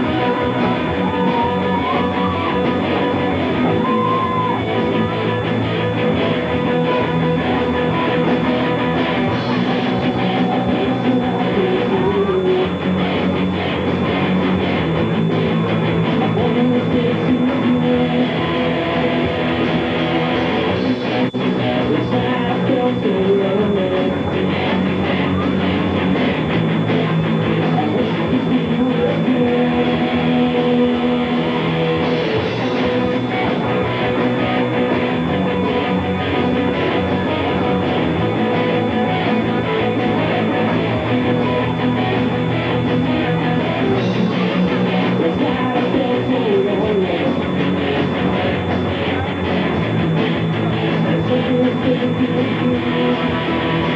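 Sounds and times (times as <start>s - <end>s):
rock band playing: 0.0s - 53.9s.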